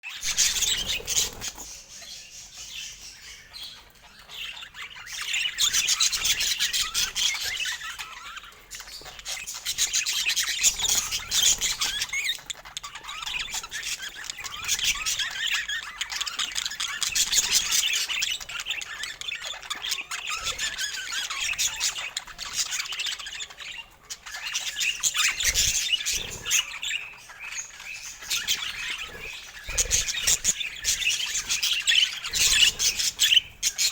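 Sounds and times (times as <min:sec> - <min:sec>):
budgerigars chattering and squawking: 0:00.1 - 0:33.9.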